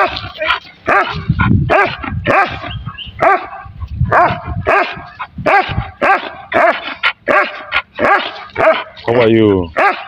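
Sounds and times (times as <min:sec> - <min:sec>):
dogs barking and yelping: 0:00.0 - 0:10.0.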